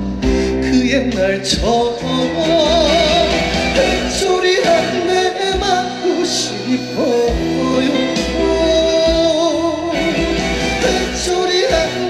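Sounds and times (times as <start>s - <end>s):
trot band music: 0.0s - 12.0s.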